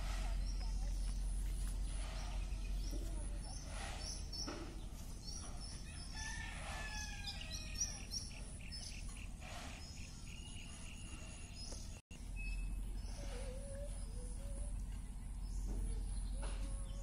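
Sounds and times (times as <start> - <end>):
birds chirping and calling: 0.0 - 17.0
steady low hum: 0.0 - 17.0.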